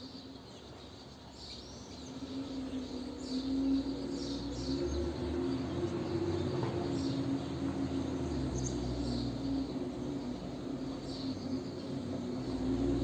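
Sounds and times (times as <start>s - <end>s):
birds chirping: 0.0s - 13.0s
distant traffic hum: 0.0s - 13.0s.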